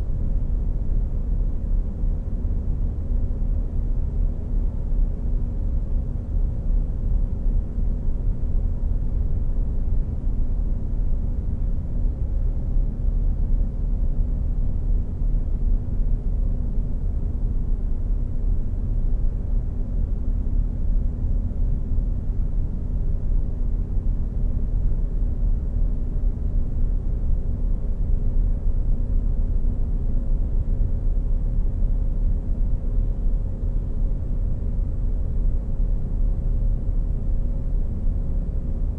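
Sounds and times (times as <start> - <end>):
faint constant hum: 0.0 - 38.9.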